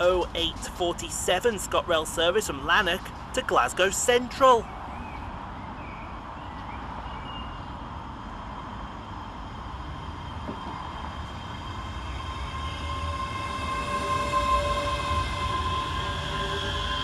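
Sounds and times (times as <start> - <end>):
electric train whine: 0.0 - 17.0
train rumble: 0.0 - 17.0.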